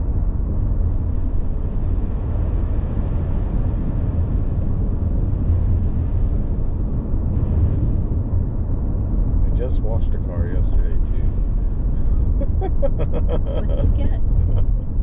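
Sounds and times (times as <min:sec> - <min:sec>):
car interior road rumble: 0:00.0 - 0:15.0.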